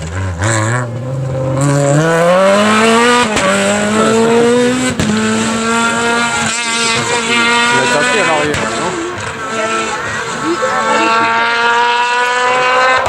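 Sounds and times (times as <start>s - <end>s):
rally car engine revving hard: 0.0s - 13.0s.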